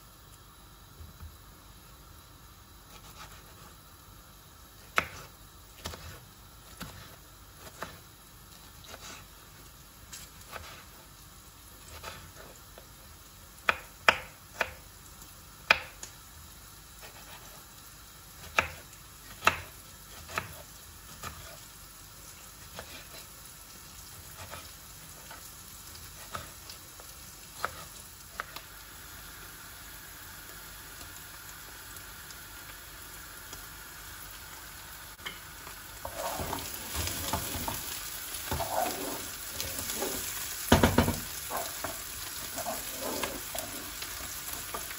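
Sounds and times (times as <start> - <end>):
food sizzling in a pan: 0.0 - 44.9.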